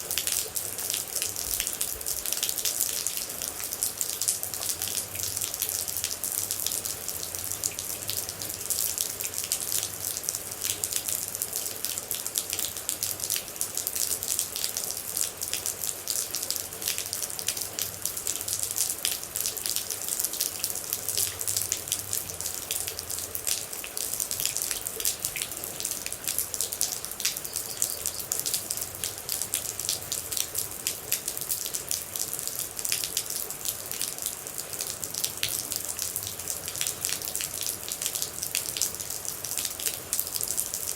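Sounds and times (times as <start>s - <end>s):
rain with dripping drops: 0.0s - 40.9s.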